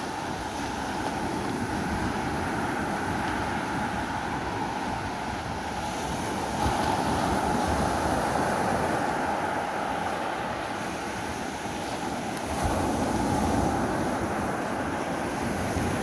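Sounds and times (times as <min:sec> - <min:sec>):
sea waves washing ashore: 0:00.0 - 0:16.0
wind buffeting microphone: 0:00.0 - 0:16.0.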